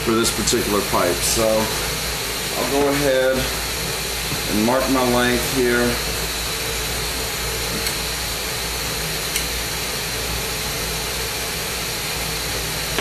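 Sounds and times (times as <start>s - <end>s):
torch flame rushing hiss: 0.0s - 13.0s.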